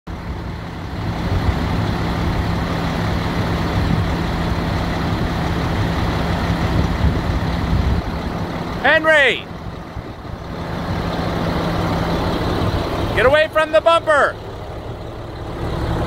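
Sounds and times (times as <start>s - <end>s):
diesel engine idling: 0.1s - 16.0s.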